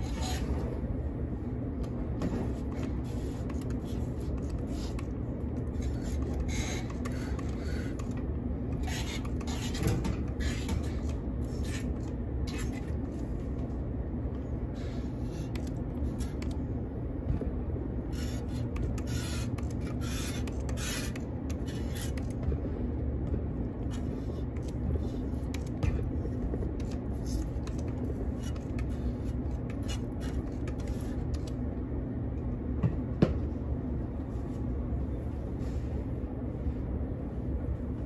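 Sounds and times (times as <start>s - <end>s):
low machine hum: 0.0s - 38.0s.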